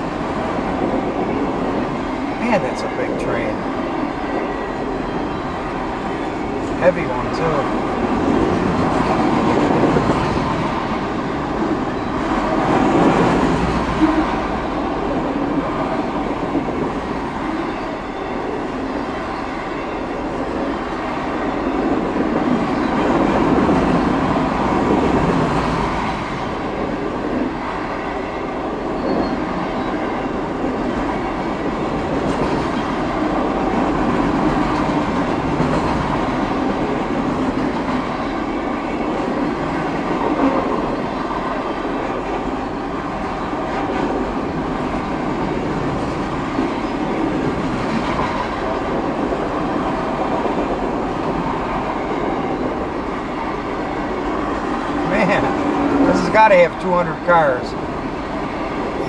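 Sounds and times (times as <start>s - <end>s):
freight train cars rolling: 0.0s - 59.0s.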